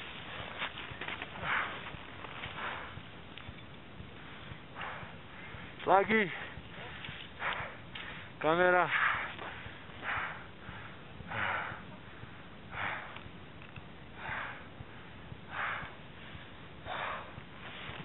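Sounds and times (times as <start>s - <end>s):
person breathing heavily: 0.0s - 3.4s, 4.0s - 13.4s, 14.0s - 18.0s.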